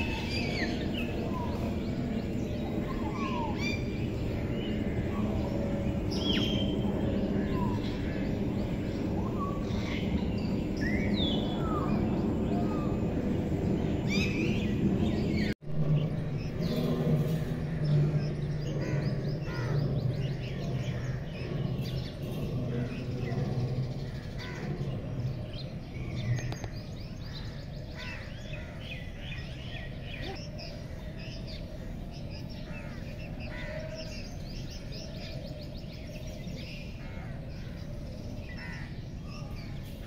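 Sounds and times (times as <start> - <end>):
birds chirping: 0.0 - 40.0
steady low hum: 0.0 - 40.0.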